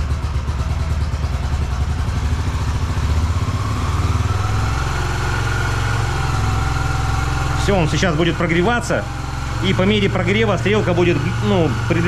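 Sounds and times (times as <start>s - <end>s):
motorcycle engine idling fast: 0.0s - 12.0s.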